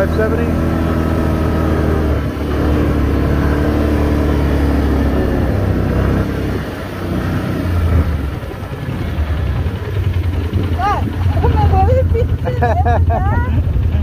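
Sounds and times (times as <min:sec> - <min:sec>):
quad engine running: 0:00.0 - 0:14.0.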